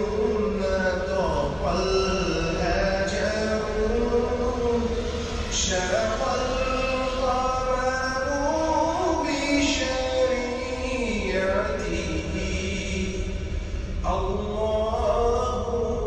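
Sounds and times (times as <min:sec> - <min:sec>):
voice chanting slow melody: 0:00.0 - 0:16.0.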